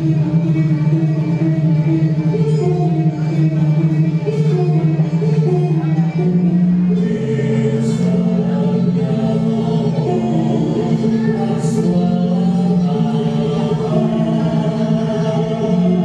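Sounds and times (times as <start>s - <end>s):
held low notes: 0.0s - 16.0s
sung melody: 0.0s - 16.0s.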